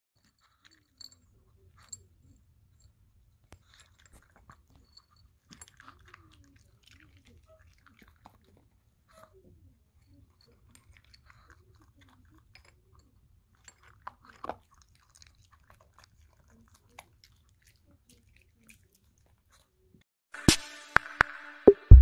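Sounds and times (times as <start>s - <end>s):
dog crunching kibble: 0.2s - 2.4s, 3.4s - 19.7s.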